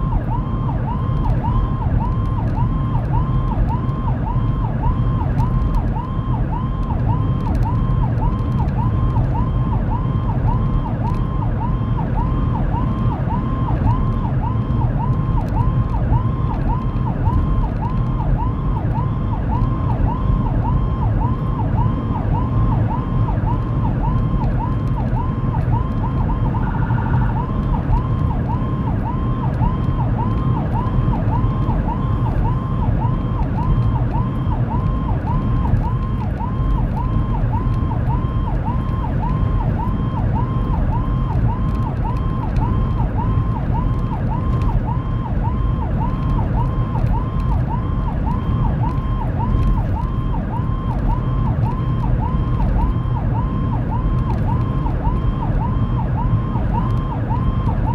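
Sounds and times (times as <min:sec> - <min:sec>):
road and engine rumble: 0:00.0 - 0:57.9
siren yelping: 0:00.0 - 0:57.9
steady siren tone: 0:00.0 - 0:57.9.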